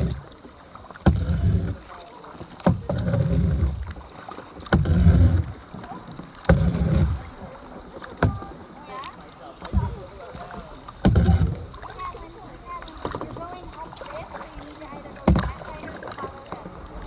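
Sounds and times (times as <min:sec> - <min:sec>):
kayak paddle strokes splashing: 0:00.0 - 0:17.0
low rushing water: 0:00.0 - 0:17.0.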